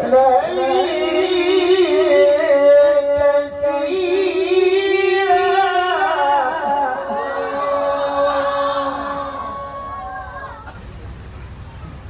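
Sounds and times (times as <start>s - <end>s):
man chanting through loudspeaker: 0.0s - 9.7s.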